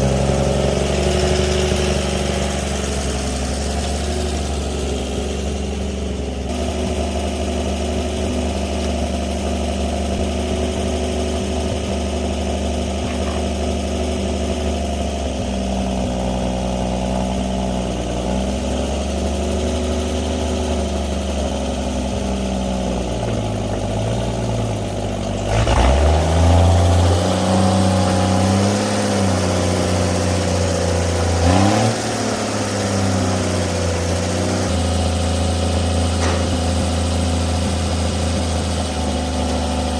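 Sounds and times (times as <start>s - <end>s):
truck engine idling: 0.0s - 39.9s
truck engine revving: 0.0s - 39.9s.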